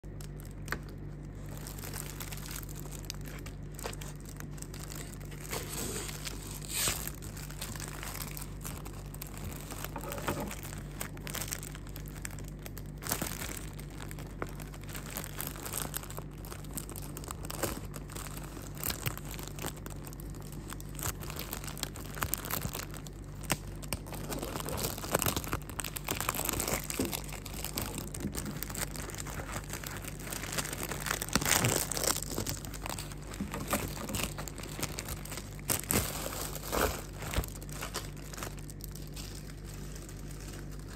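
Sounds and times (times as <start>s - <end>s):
low hum: 0.0s - 40.9s
plastic bag crinkling: 0.0s - 40.9s.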